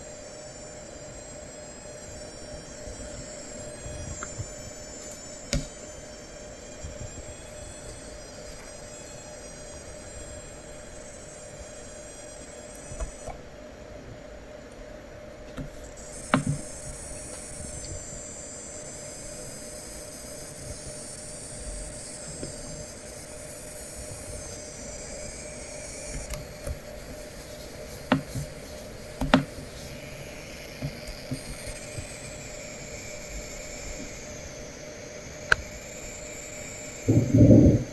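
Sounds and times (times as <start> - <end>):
laptop coil whine: 0.0 - 37.9
steady low hum: 0.0 - 37.9.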